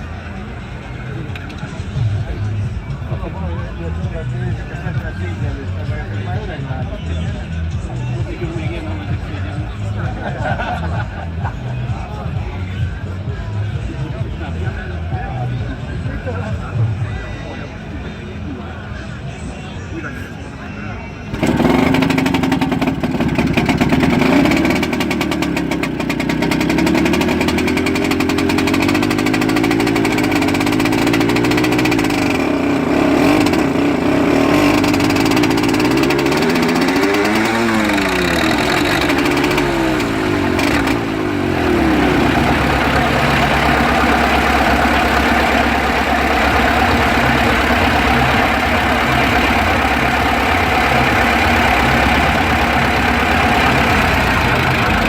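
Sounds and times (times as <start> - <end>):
tractor engine starting and idling: 0.0 - 19.3, 21.2 - 55.0.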